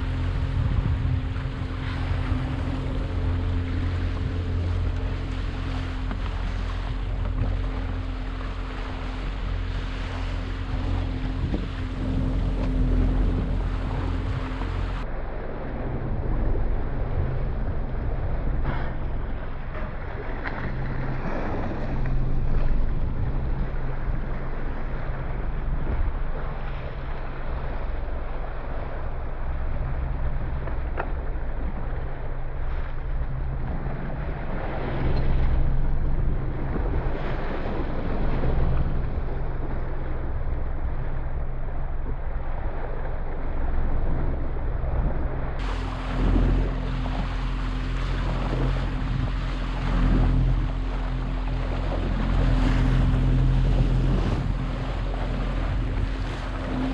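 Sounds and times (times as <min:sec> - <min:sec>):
boat engine idling: 0:00.0 - 0:56.9
water washing against hull: 0:00.0 - 0:56.9
wind on microphone: 0:00.0 - 0:56.9.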